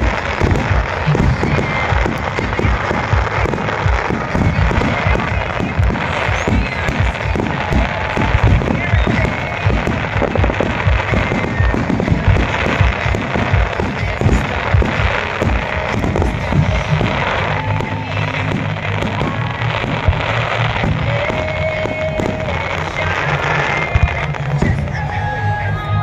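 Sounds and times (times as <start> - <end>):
fireworks bursting and crackling: 0.0 - 26.0
music: 0.0 - 26.0.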